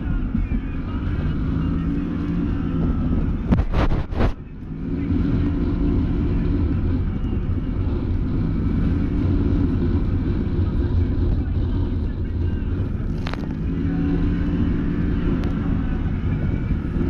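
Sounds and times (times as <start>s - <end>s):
side-by-side engine running: 0.0s - 17.0s.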